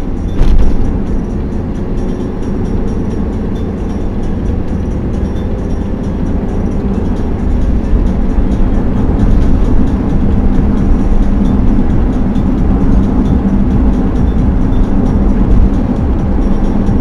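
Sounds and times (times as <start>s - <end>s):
car tyre and engine rumble: 0.0s - 17.0s.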